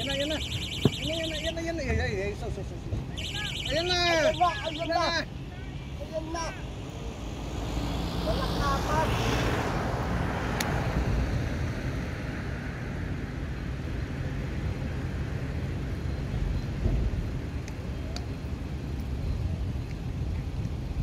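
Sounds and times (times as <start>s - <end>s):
low rumble of traffic: 0.0s - 21.0s.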